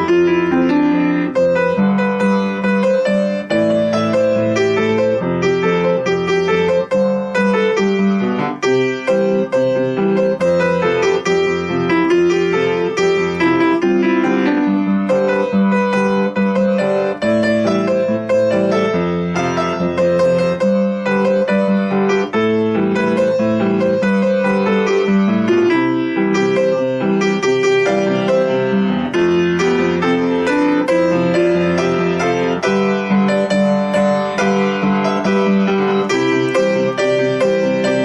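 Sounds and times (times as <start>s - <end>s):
solo piano playing: 0.0s - 38.0s.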